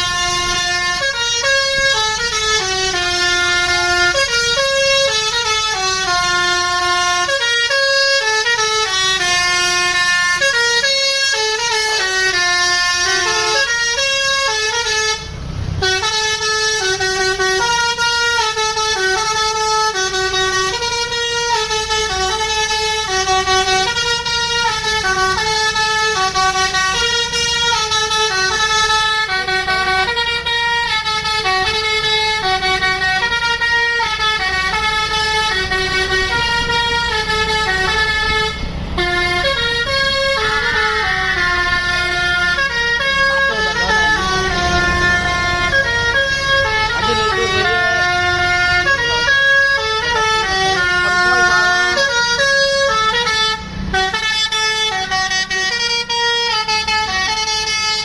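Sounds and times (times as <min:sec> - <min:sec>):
multi-tone air horn melody: 0:00.0 - 0:58.0.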